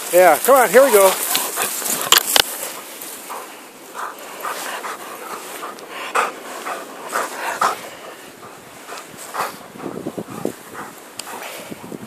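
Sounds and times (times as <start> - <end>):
dog panting hard: 1.1 - 12.0.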